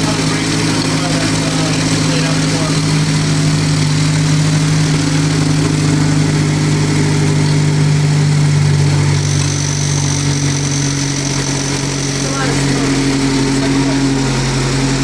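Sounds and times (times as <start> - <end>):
car engine idling: 0.0 - 15.0
faint high whine: 0.0 - 15.0.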